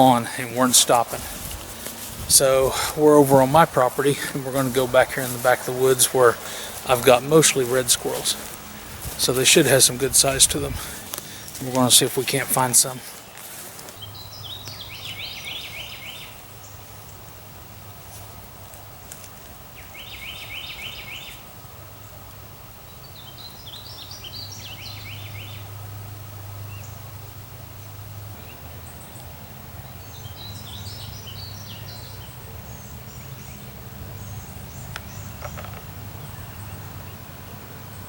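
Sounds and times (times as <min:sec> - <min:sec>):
birds singing: 0:00.0 - 0:17.3, 0:19.7 - 0:22.2, 0:22.8 - 0:26.0, 0:26.6 - 0:38.0.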